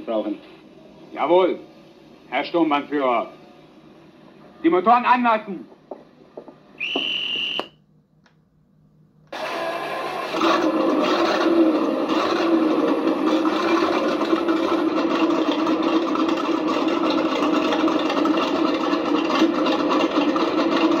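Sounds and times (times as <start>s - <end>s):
recorded tank engine over loudspeaker: 0.0s - 3.7s, 4.4s - 5.9s, 9.4s - 21.0s.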